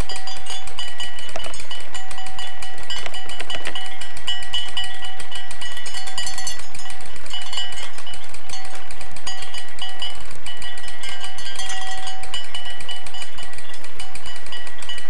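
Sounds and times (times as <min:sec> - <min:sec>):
metallic clinking and rattling: 0:00.0 - 0:15.0
pedestal fan running: 0:00.0 - 0:15.0
steady ringing tone: 0:00.0 - 0:15.0.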